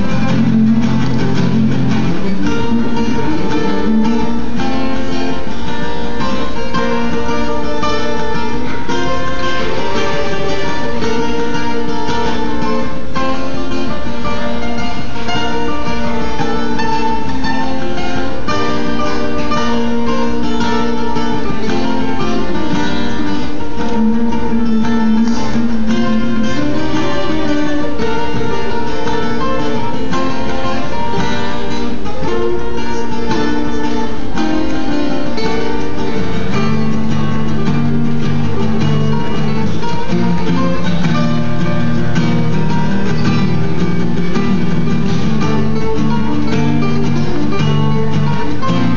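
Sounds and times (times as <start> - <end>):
guitar solo: 0.0 - 48.9.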